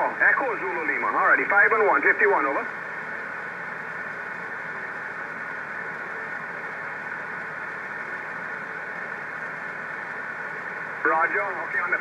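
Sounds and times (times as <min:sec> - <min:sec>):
radio receiver hiss: 0:00.0 - 0:12.0.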